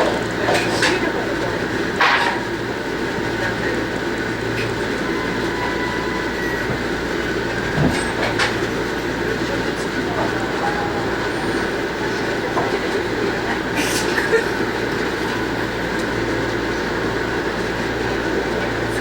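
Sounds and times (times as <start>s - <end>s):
train cabin hum: 0.0s - 19.0s.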